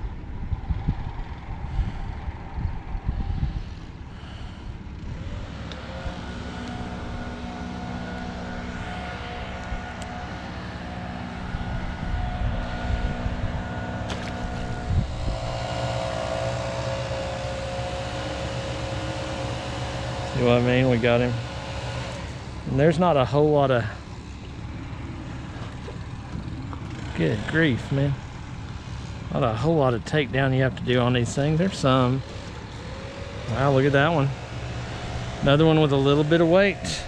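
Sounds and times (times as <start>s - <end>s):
engine droning: 0.0s - 37.0s.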